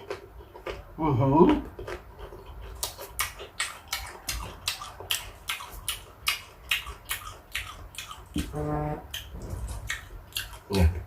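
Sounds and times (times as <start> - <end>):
crunchy fruit being chewed: 0.0 - 11.0.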